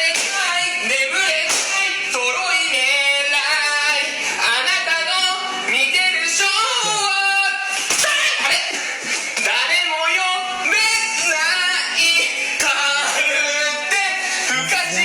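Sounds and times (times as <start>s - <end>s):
person singing: 0.0s - 8.8s, 9.4s - 15.0s
music: 0.0s - 15.0s.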